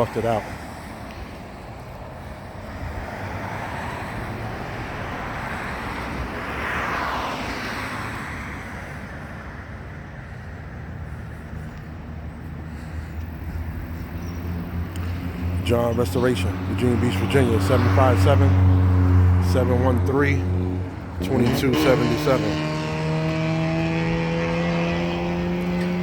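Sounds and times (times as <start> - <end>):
vehicle passing by: 2.6 - 26.0.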